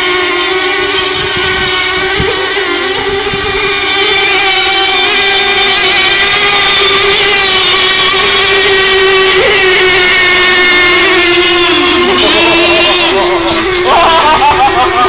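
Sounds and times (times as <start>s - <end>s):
rc boat motors whining: 0.0s - 15.0s.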